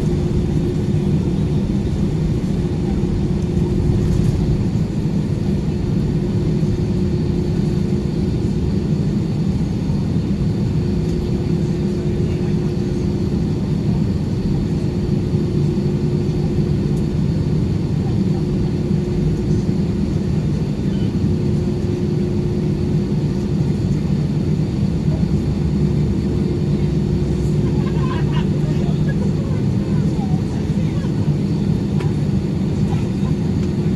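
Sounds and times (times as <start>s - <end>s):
airplane cabin rumble and engine hum: 0.0s - 33.9s.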